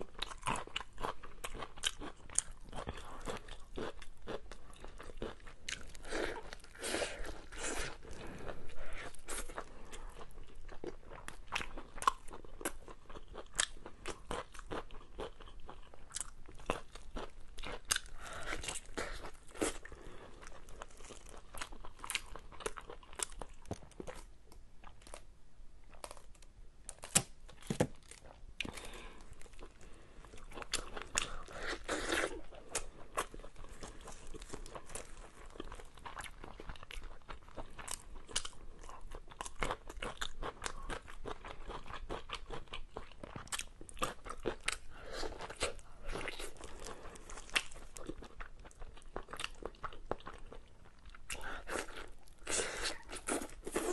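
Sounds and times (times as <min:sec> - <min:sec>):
person chewing meat: 0:00.0 - 0:25.2, 0:28.0 - 0:53.9.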